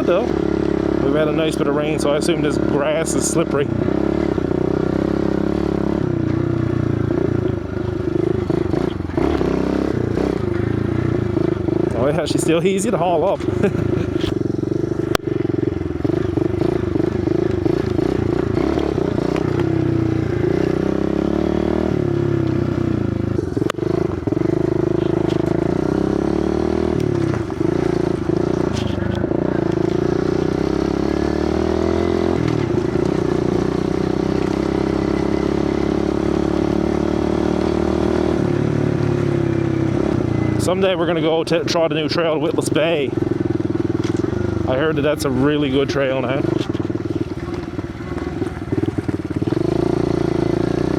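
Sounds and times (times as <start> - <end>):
small motorcycle engine running: 0.0 - 50.9.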